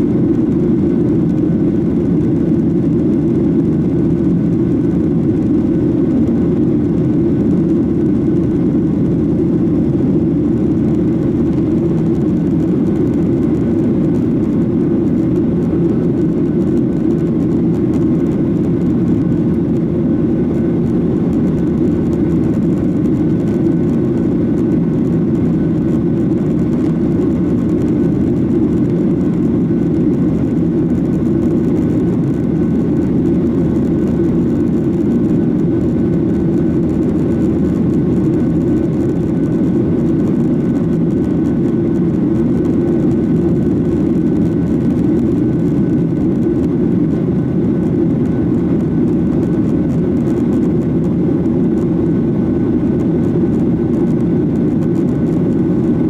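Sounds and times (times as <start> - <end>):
airliner cabin jet engine drone: 0.0 - 56.0
faint engine whine: 0.0 - 56.0.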